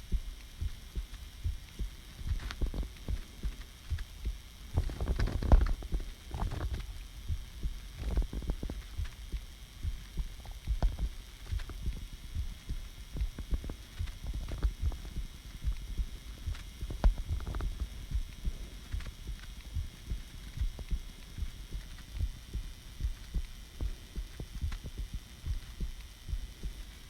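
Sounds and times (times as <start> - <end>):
heartbeat thumps: 0.0 - 27.0.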